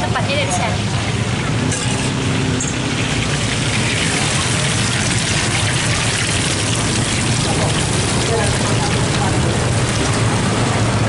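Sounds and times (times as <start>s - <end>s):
oil sizzling in a wok: 0.2s - 10.6s.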